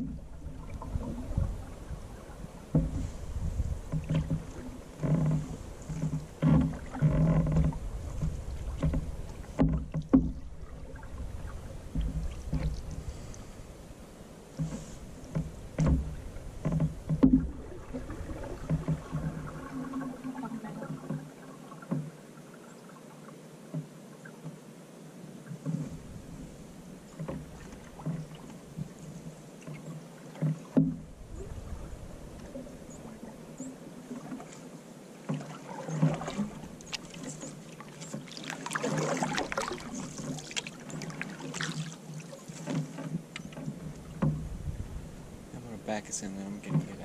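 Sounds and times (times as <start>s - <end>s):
paddle knocking against hull: 0.0s - 13.6s, 14.5s - 22.2s, 25.5s - 47.0s
paddle strokes in water: 0.0s - 24.7s, 25.3s - 47.0s.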